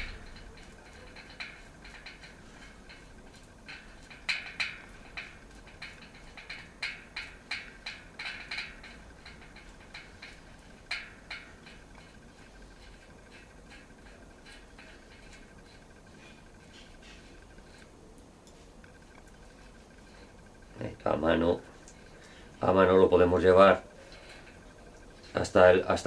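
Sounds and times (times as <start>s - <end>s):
light clicks of bicycle hub parts: 0.0s - 26.0s.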